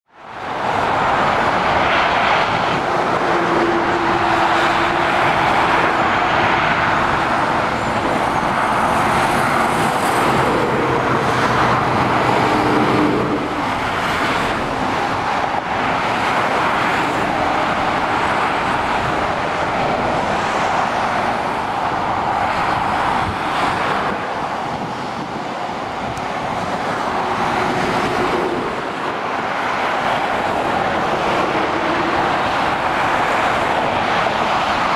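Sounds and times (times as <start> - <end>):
tyre noise of passing traffic: 0.0 - 34.9
passing vehicle hum: 0.2 - 34.9.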